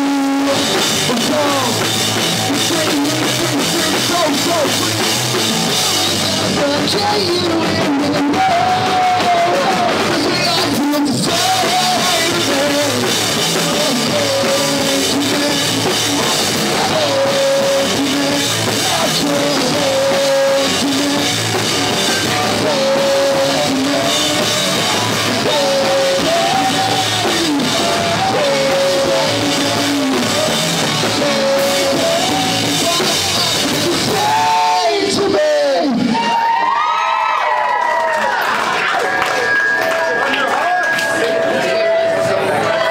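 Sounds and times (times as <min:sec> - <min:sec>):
live rock band playing: 0:00.0 - 0:36.7, 0:38.5 - 0:42.9
drum kit: 0:00.0 - 0:36.8
electric guitars: 0:00.0 - 0:42.9.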